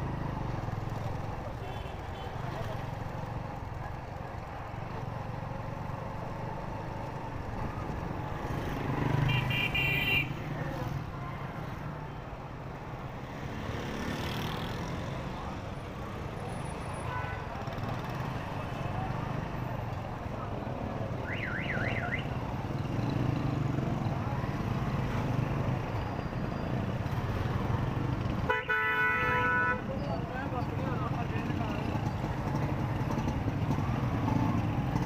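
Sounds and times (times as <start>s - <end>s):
rumble of traffic: 0.0s - 35.0s.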